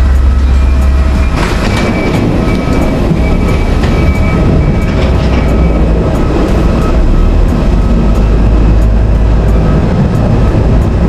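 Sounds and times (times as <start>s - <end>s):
airport ground rumble: 0.0s - 11.0s.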